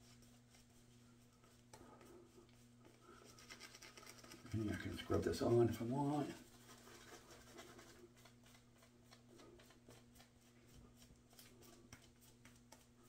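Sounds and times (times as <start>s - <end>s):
low steady hum: 0.0s - 13.0s
shaving brush scrubbing face: 0.0s - 13.0s.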